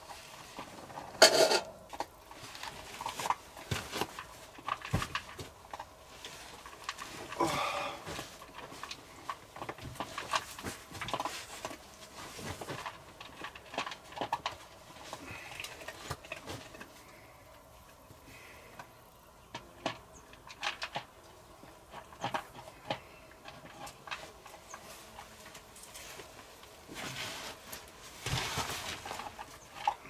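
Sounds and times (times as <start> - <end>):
soft rustles and light knocks: 0.0 - 7.4, 8.0 - 17.2, 21.1 - 30.0.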